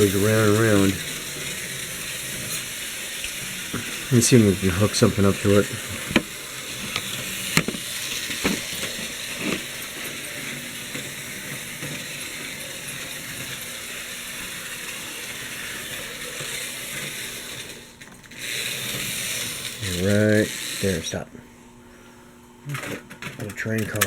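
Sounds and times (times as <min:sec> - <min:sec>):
model train whirring and rattling: 0:00.0 - 0:21.3, 0:22.7 - 0:24.0.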